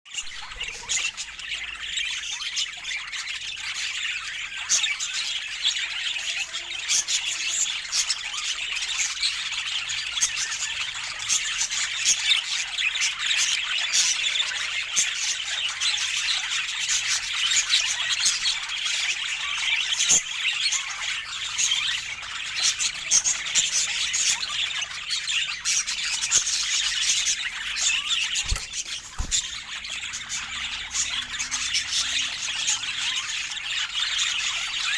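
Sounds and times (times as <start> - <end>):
budgerigars chattering: 0.1 - 34.9.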